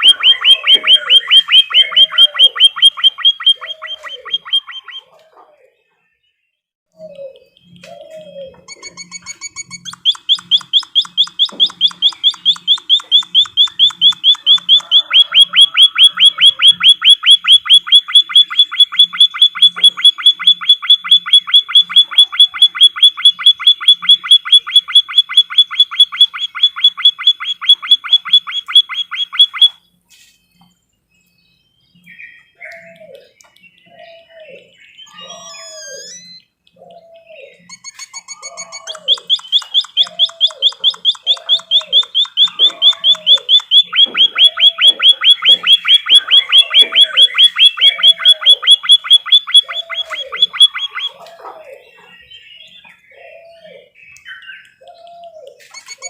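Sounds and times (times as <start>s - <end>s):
high bird chirps: 0.0s - 5.2s, 6.9s - 56.0s
songbird trilling: 0.0s - 5.2s, 7.0s - 29.9s, 31.9s - 56.0s
low downward-sliding bird calls: 0.0s - 5.7s, 6.9s - 29.9s, 32.0s - 56.0s.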